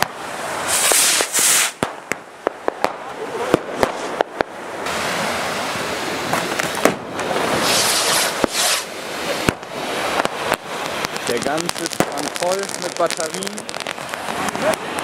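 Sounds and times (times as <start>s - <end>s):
fireworks rushing hisses: 0.0s - 15.0s
firecracker bangs: 0.7s - 4.5s, 6.3s - 15.0s.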